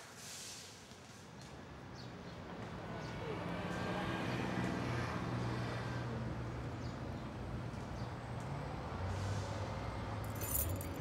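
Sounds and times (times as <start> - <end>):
traffic rumble: 1.0 - 11.0.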